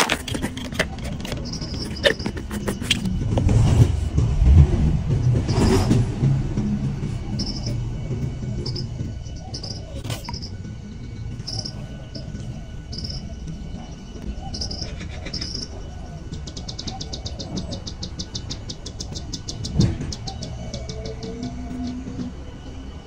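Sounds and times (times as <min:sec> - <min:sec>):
insects chirping and trilling: 0:00.0 - 0:04.2, 0:05.1 - 0:23.0
low steady rumble: 0:00.0 - 0:23.0.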